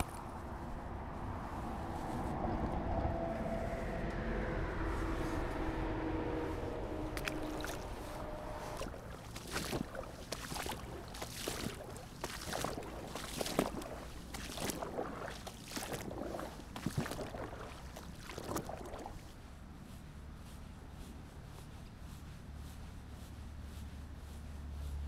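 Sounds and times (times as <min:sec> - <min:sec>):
water swishing and splashing: 0:00.0 - 0:21.0.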